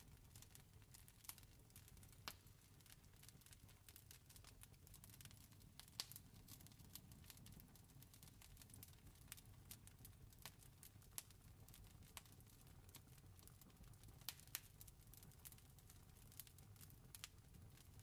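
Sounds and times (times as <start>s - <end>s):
low rumble of fire: 0.0s - 18.0s.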